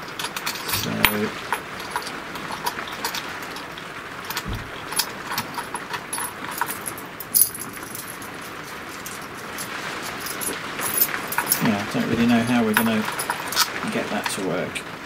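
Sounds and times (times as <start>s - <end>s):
metal parts clicking and clinking: 0.0s - 14.4s.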